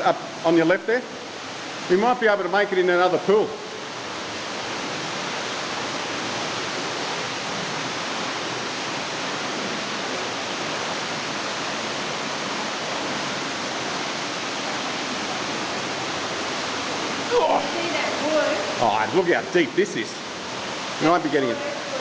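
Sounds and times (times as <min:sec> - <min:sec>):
waterfall splashing into pool: 0:00.0 - 0:22.0.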